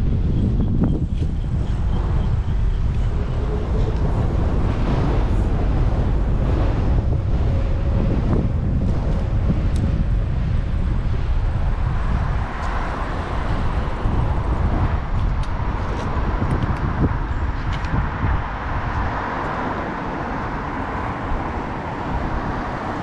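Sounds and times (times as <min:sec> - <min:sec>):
road traffic noise: 0:00.0 - 0:23.0
wind buffeting microphone: 0:00.0 - 0:23.0.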